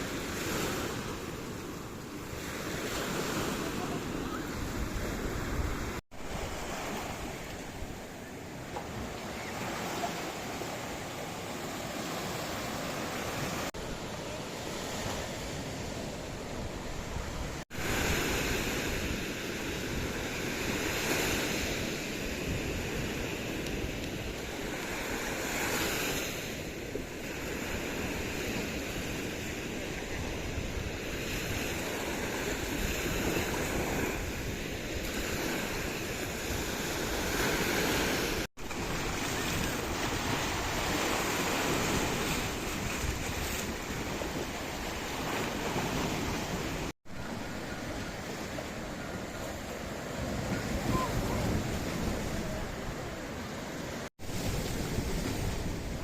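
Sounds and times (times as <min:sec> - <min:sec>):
wind on microphone: 0:00.0 - 0:11.0, 0:12.2 - 0:56.0
sea waves washing onto shore: 0:00.0 - 0:56.0.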